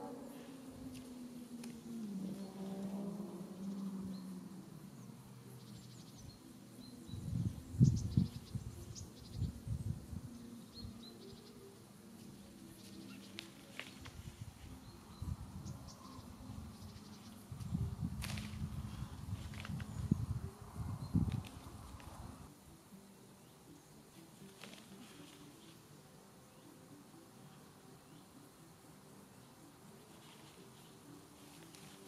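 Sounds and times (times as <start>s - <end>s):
faint background hiss: 0.0s - 32.0s.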